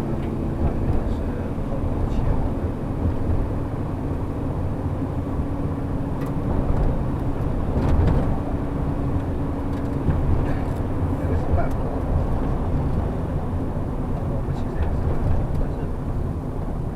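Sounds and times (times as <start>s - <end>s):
bus engine and road rumble: 0.0s - 16.9s.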